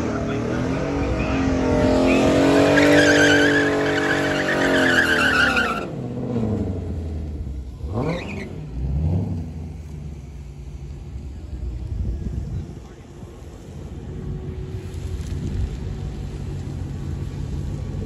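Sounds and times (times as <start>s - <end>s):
race cars passing at full throttle: 0.0s - 18.0s.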